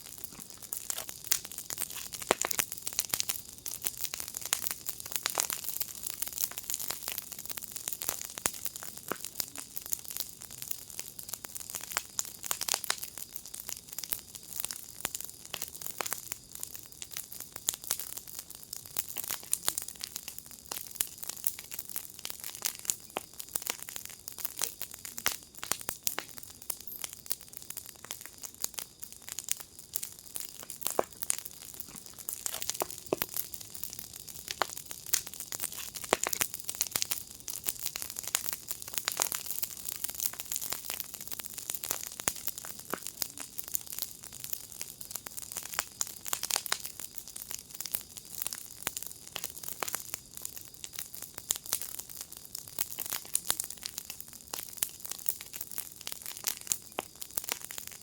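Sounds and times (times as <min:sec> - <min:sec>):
fire hiss: 0:00.0 - 0:58.0
wood fire crackling: 0:00.0 - 0:58.0.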